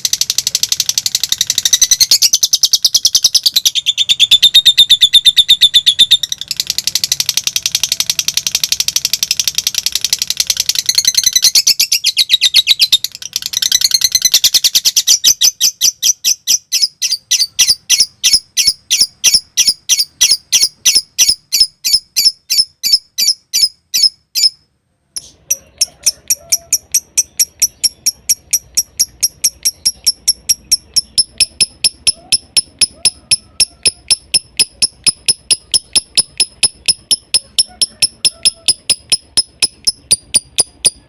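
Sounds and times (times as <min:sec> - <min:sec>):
lovebird chirping: 0:00.0 - 0:41.0.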